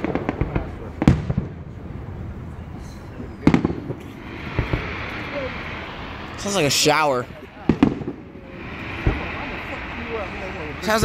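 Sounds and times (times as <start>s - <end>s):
firework hiss: 0.0s - 11.0s
fireworks bangs: 0.0s - 11.0s.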